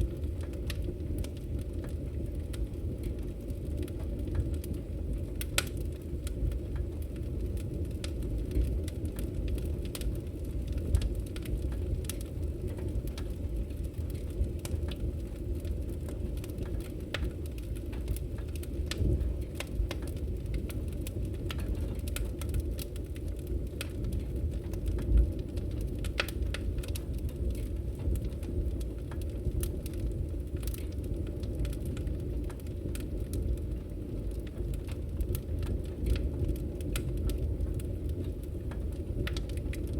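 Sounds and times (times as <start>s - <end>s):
firewood crackling and popping: 0.0s - 39.9s
low rumble of flame: 0.0s - 39.9s.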